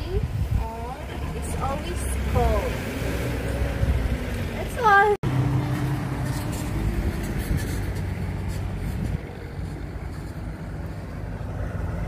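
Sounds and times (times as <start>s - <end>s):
truck engine driving away: 1.0s - 12.0s.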